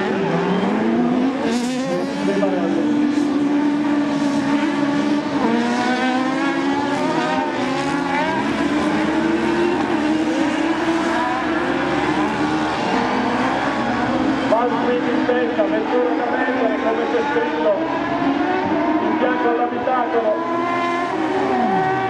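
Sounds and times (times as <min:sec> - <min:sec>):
buggy engines revving: 0:00.0 - 0:22.0.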